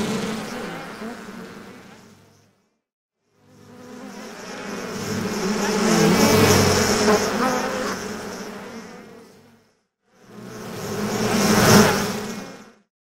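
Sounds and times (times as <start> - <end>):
bee buzzing: 0.0 - 2.4, 3.4 - 9.6, 10.2 - 12.8.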